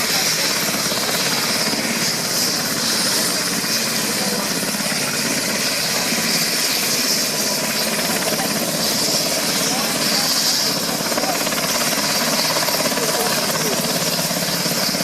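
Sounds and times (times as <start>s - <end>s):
helicopter engine whine: 0.0s - 15.0s
helicopter rotor chop: 0.0s - 15.0s.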